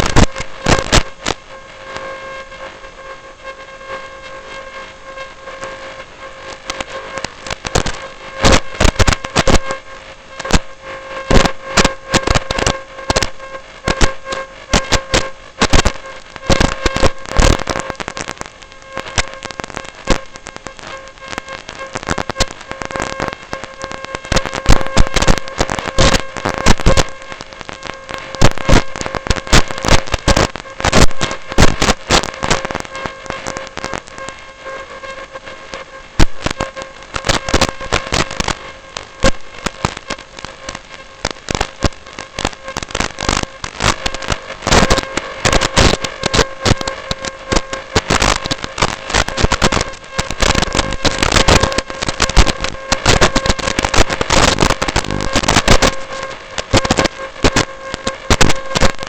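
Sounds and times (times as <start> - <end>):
dense crackling and clicking: 0.0 - 59.0
high whine: 0.0 - 59.0.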